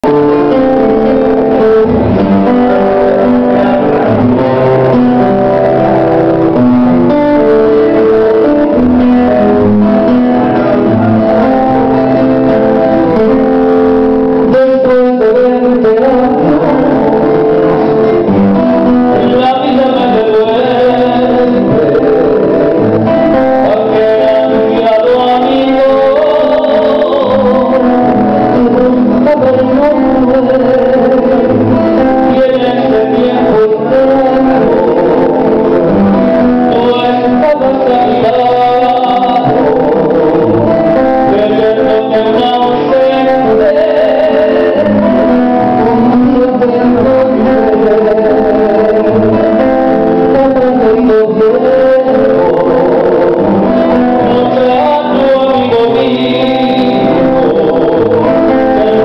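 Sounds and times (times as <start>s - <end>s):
acoustic guitar: 0.0s - 59.0s
man singing: 0.0s - 59.0s.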